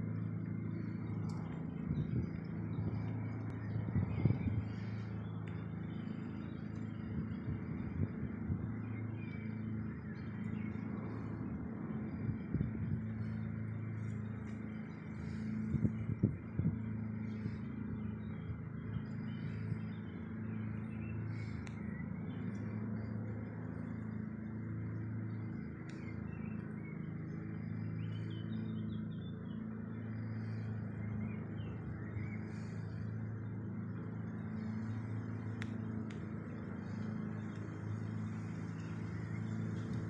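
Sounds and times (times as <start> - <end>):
machine humming low: 0.0 - 40.0.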